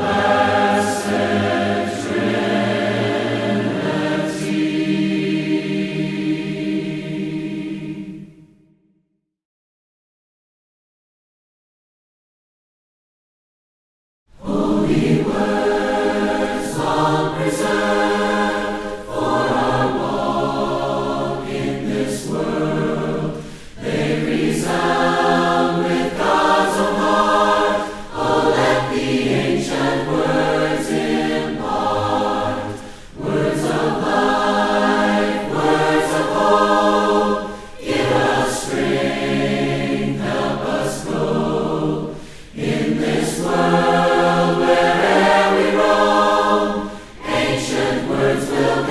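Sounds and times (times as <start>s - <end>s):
group singing a hymn: 0.0s - 8.6s, 14.4s - 48.9s.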